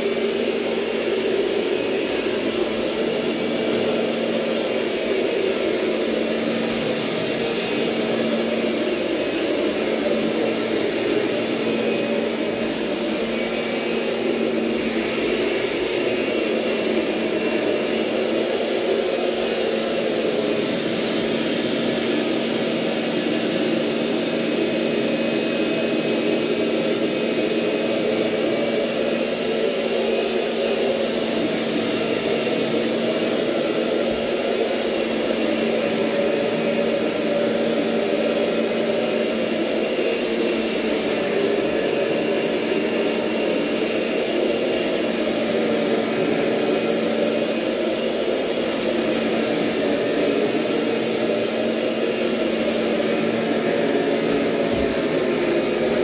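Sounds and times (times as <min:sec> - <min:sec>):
vacuum motor hum: 0:00.0 - 0:56.0.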